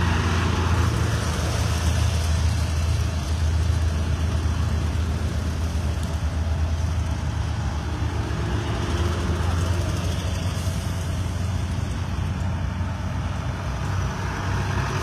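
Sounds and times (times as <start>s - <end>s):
road noise: 0.0s - 15.0s
tractor and truck engines running: 0.0s - 15.0s.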